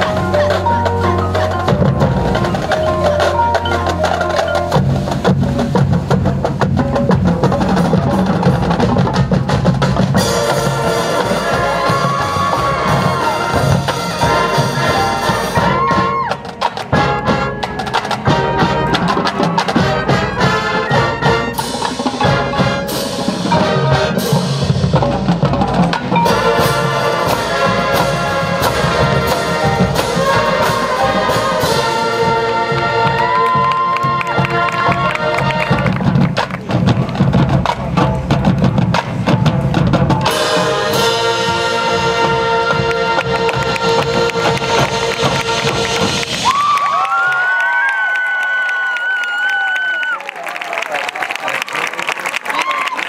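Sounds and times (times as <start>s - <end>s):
mallet percussion and timpani: 0.0s - 47.0s
brass and wind ensemble: 0.0s - 47.1s
marching drums: 0.0s - 48.1s.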